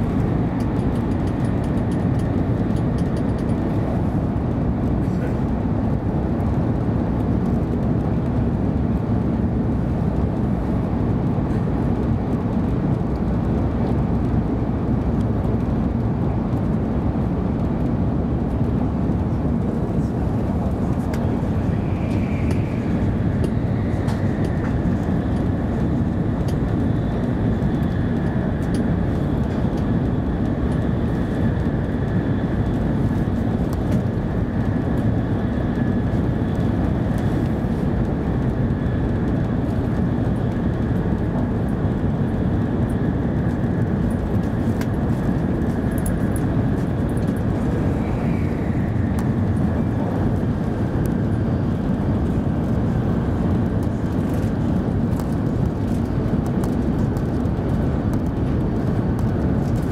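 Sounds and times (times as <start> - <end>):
faint steady whine: 0.0 - 59.9
train interior rumble: 0.0 - 59.9.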